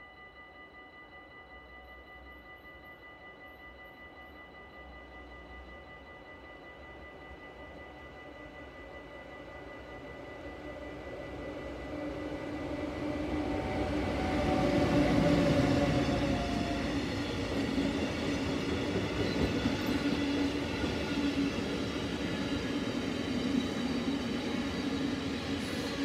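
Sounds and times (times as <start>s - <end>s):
electric locomotive humming: 1.8s - 26.0s.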